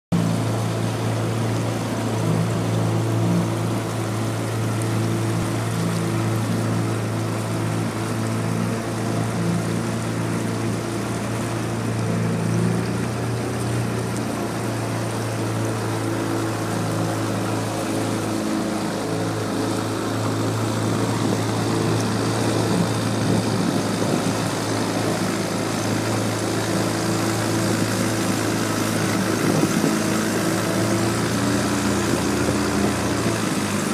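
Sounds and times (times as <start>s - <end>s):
outboard motor running: 0.1s - 33.9s
water rushing under boat: 0.1s - 33.9s.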